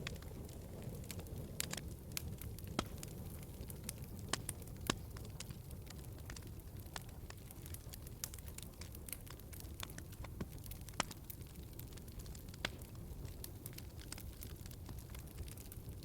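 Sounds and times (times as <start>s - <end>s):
low rumble of flame: 0.0s - 16.0s
wood fire sharp pops: 0.0s - 16.0s.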